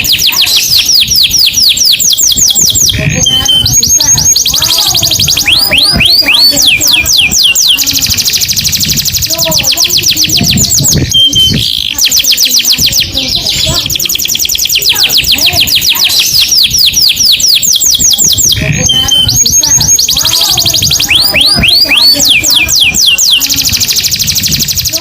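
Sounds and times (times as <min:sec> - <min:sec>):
canary singing: 0:00.0 - 0:25.0.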